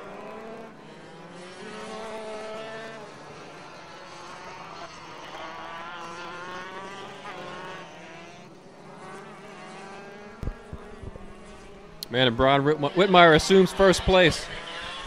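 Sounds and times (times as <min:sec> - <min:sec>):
distant racing kart engines: 0:00.0 - 0:15.0.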